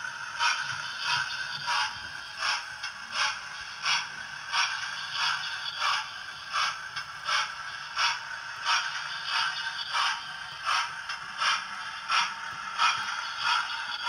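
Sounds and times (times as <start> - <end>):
model train whirring: 0.0 - 14.0.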